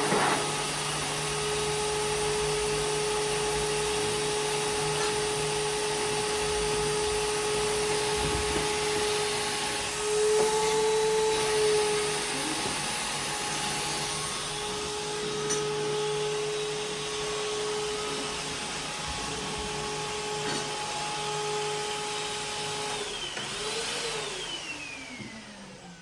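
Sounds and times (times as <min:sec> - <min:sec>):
motor winding down: 0:00.0 - 0:26.0
vacuum cleaner whine: 0:00.0 - 0:26.0.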